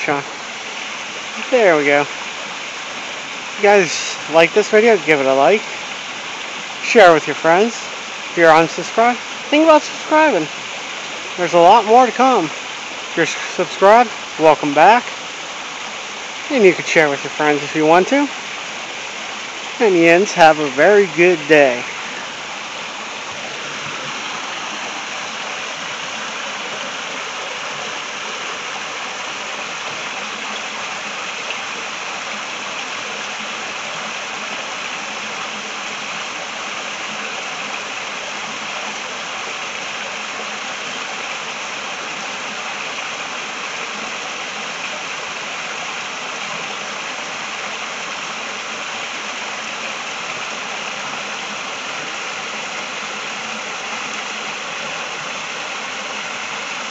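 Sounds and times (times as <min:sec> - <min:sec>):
creek water rushing over rocks: 0:00.0 - 0:56.9.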